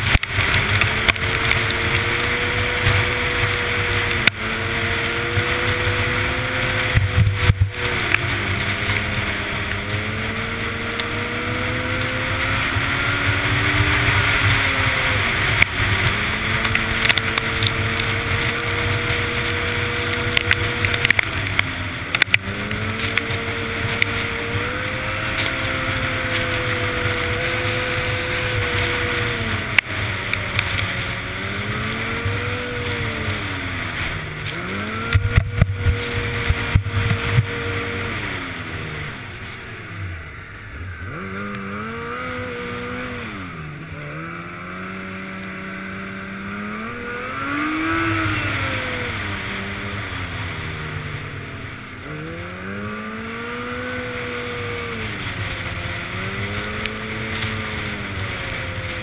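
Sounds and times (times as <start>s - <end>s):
snowmobile engine running hard: 0.0s - 59.0s
wind rushing over microphone: 0.0s - 59.0s.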